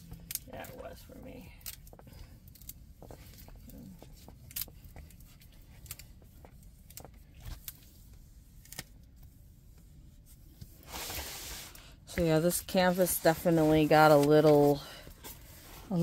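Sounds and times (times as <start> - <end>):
low steady hum: 0.0 - 16.0
soft clicks and rustles of canvas: 0.0 - 16.0.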